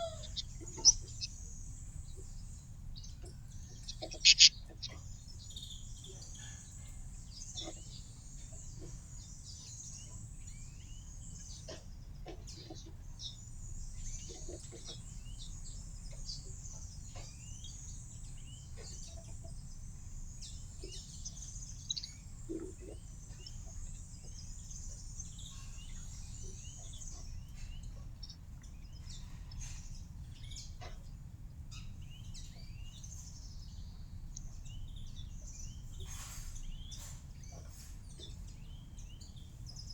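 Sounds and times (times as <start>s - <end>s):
low background noise: 0.0s - 39.9s
small birds chirping: 0.0s - 39.9s.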